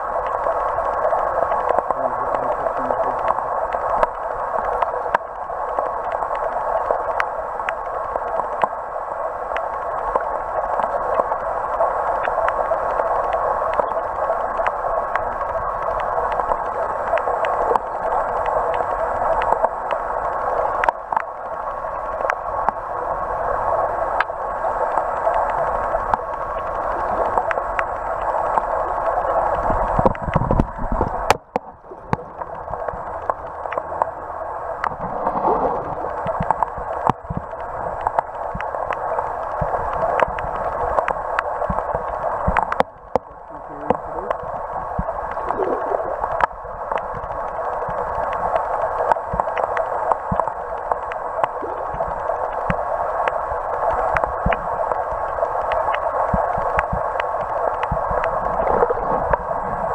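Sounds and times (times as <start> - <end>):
muffled underwater water noise: 0.0 - 59.9
small clicks and ticks: 0.1 - 59.9.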